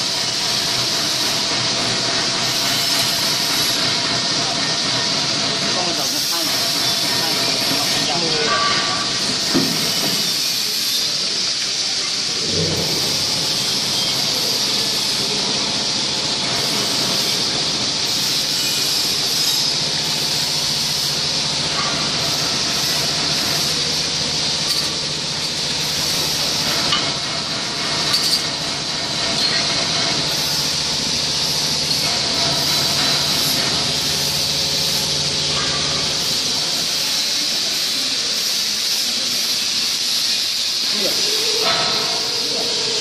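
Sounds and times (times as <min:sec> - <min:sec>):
machine hissing and whirring: 0:00.0 - 0:43.0.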